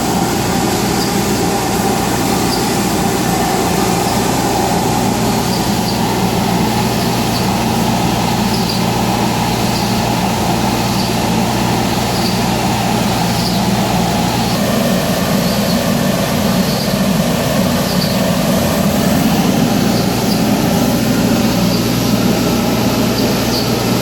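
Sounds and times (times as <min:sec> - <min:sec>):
cnc router running: 0:00.0 - 0:24.0.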